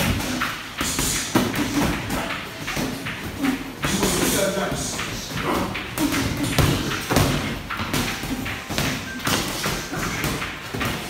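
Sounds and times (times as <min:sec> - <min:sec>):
boxing gloves thudding: 0:00.0 - 0:11.0.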